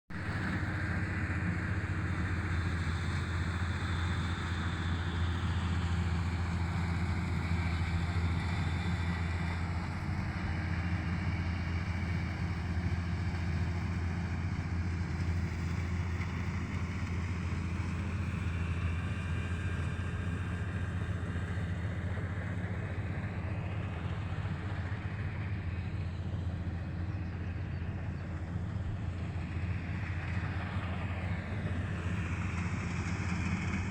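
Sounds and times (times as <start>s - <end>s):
combine harvester diesel drone: 0.1s - 33.9s.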